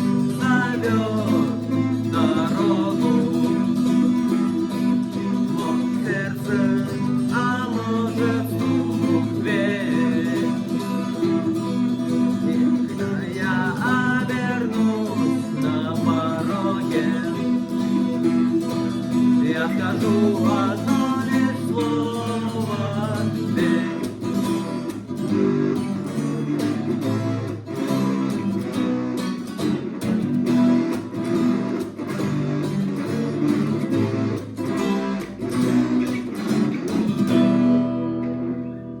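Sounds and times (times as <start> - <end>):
lead guitar melody: 0.0 - 39.0
rhythm guitar chords strummed: 0.0 - 39.0.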